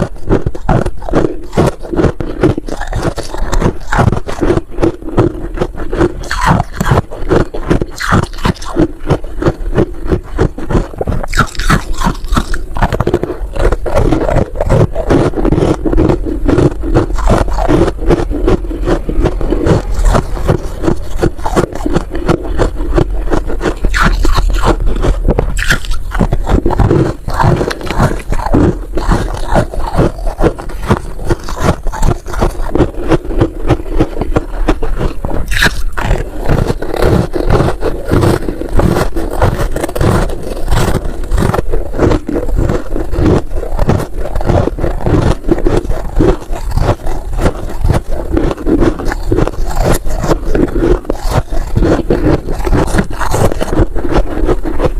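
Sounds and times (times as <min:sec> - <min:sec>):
freezer frost being scraped: 0:00.0 - 0:54.9.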